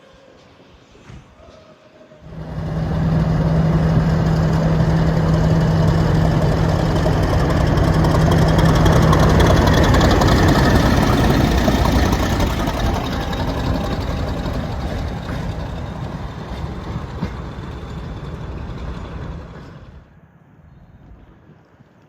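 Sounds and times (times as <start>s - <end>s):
diesel engine running loudly: 2.3s - 20.0s.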